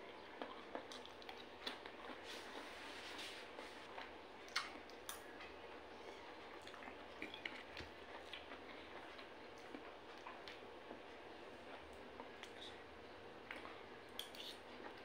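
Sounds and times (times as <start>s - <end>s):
low background hum: 0.0s - 15.0s
chewing: 0.1s - 2.8s, 3.6s - 5.5s, 6.3s - 15.0s.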